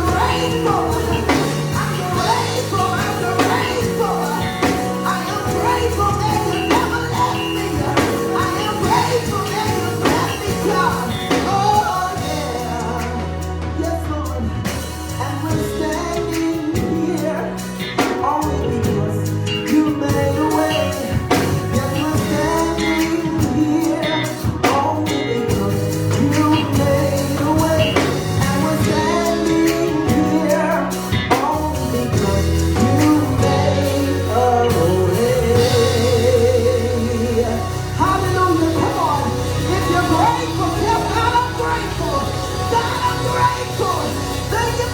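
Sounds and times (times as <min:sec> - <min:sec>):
bass notes: 0:00.0 - 0:44.9
drums keeping a beat: 0:00.0 - 0:44.9
gospel singing: 0:00.0 - 0:44.9.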